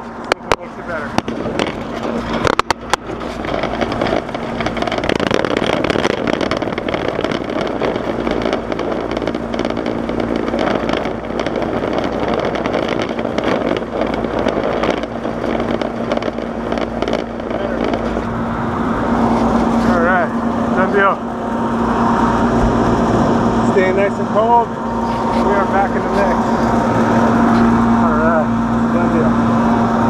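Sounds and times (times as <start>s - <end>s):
rushing noise: 0.0s - 30.0s
steady machine hum: 0.0s - 30.0s.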